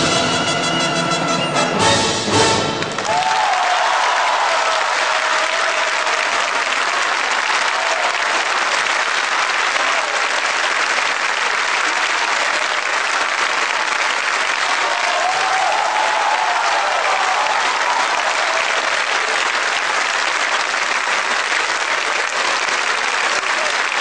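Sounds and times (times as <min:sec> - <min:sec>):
audience applauding: 0:02.4 - 0:24.0.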